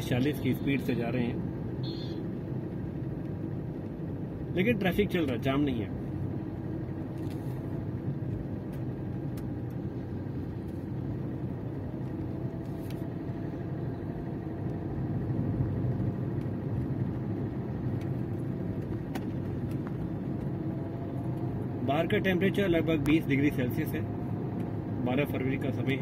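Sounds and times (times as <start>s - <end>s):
engine and tyre rumble: 0.0s - 26.0s.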